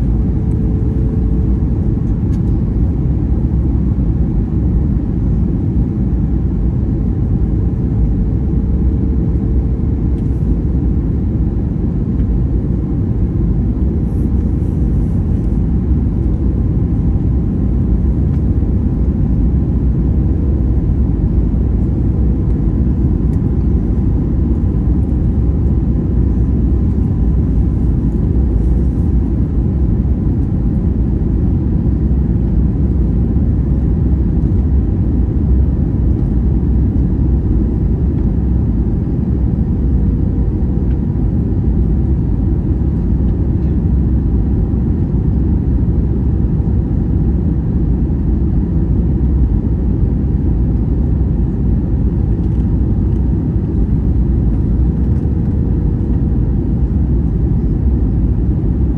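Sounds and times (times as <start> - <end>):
faint steady hum: 0.0 - 58.9
low rumble of jet engines: 0.0 - 58.9.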